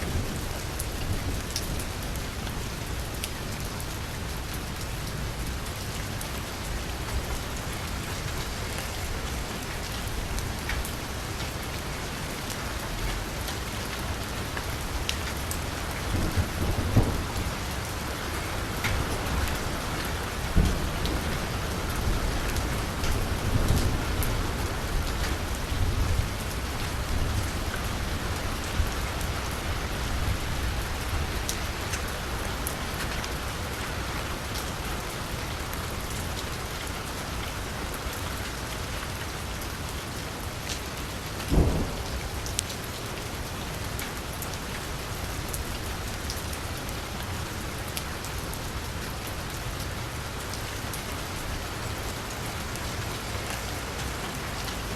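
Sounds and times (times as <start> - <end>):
rain falling on street: 0.0 - 54.9.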